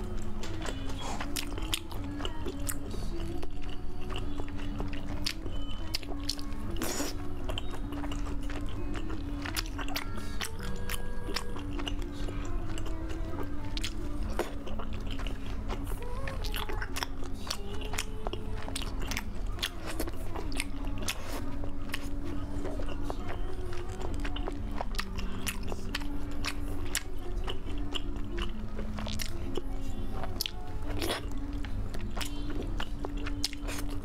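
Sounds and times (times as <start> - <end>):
background music with held notes: 0.0 - 34.0
chewing and biting food: 0.0 - 34.0.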